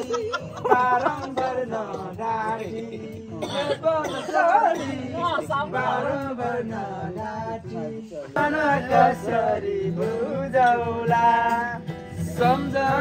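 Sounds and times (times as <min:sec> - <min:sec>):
instrumental backing music: 0:00.0 - 0:13.0
person singing: 0:00.0 - 0:13.0.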